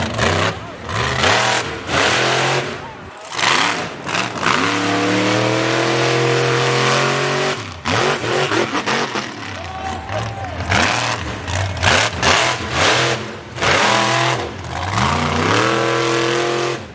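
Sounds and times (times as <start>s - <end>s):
truck engine revving: 0.0s - 16.9s.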